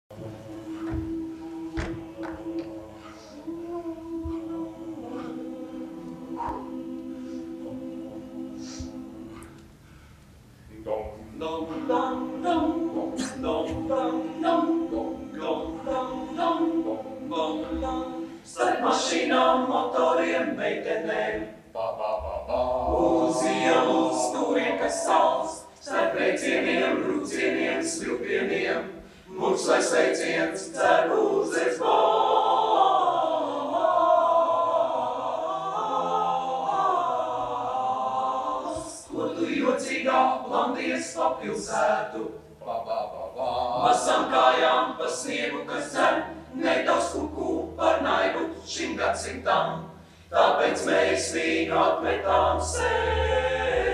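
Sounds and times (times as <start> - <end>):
choir singing a cappella: 0.0 - 10.1, 10.8 - 53.9.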